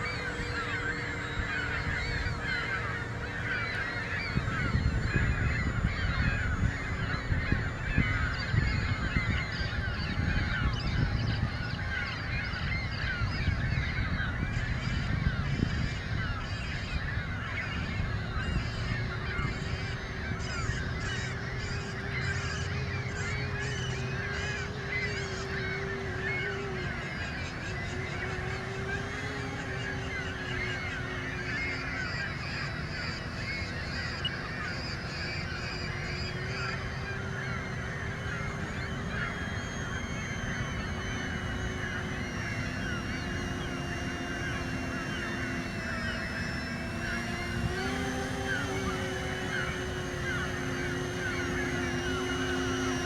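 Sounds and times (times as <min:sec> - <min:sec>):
droning motor tone: 0:00.0 - 0:53.0
flock of birds honking: 0:00.0 - 0:53.0.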